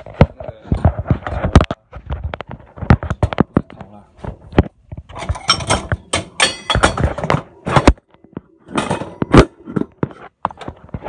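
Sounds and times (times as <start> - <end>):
kitchen objects knocking and clattering: 0.0 - 11.0.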